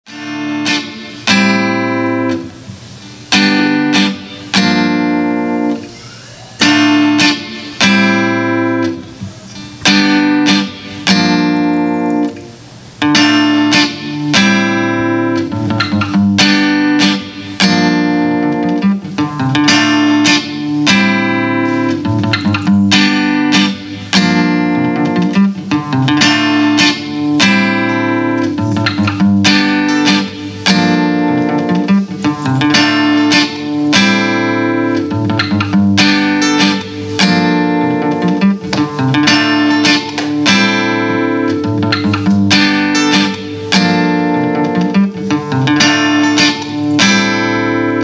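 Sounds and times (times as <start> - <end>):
acoustic guitar strumming chords: 0.1 - 48.0.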